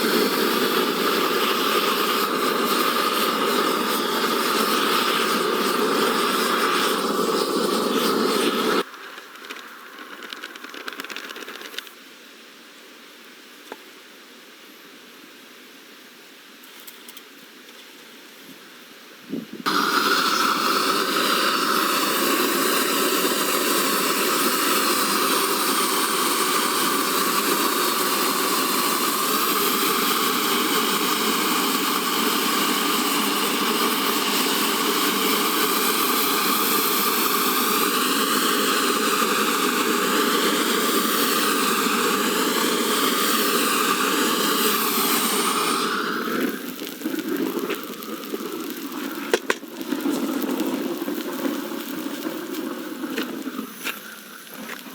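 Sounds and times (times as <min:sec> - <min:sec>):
gas burner flame roaring: 0:00.0 - 0:11.9, 0:19.6 - 0:54.9.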